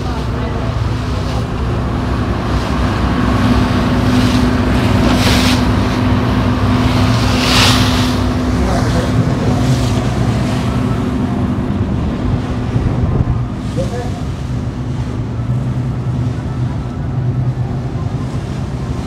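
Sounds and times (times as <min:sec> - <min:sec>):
ferry engine humming: 0:00.0 - 0:19.0
water rushing past: 0:00.0 - 0:19.0
wind buffeting microphone: 0:00.0 - 0:19.0.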